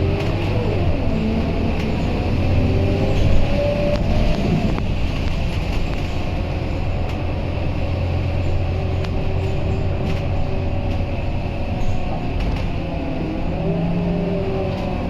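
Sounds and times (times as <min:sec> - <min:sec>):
bus engine drone with whine: 0:00.0 - 0:15.0.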